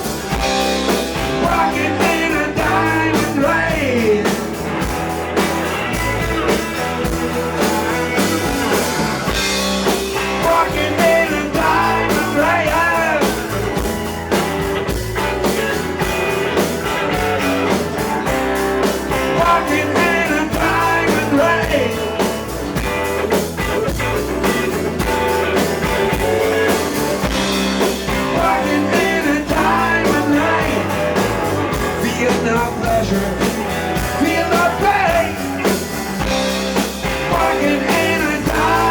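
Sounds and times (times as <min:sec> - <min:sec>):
blues-rock band playing: 0:00.0 - 0:38.9
electric guitar lead: 0:00.0 - 0:38.9.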